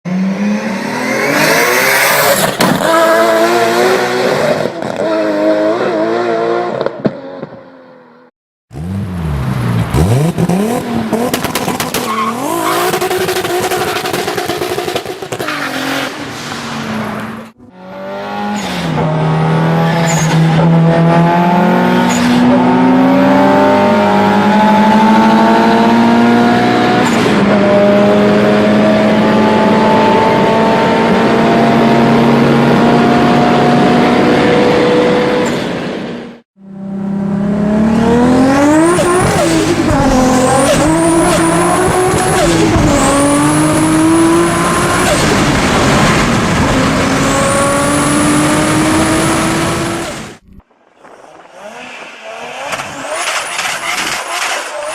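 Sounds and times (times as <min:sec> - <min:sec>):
turbocharged car engine revving: 0:00.1 - 0:06.8, 0:08.7 - 0:35.5, 0:36.6 - 0:50.6.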